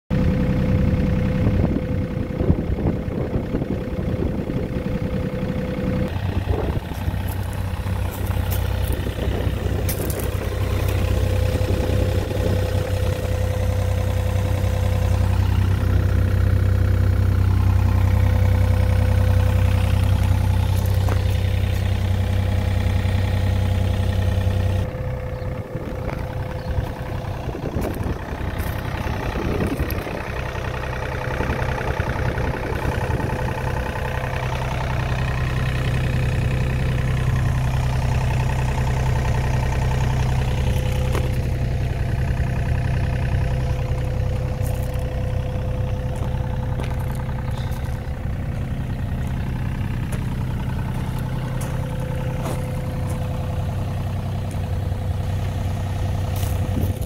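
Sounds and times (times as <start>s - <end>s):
diesel engine idling: 0.1s - 57.0s
engine whine: 0.1s - 57.0s.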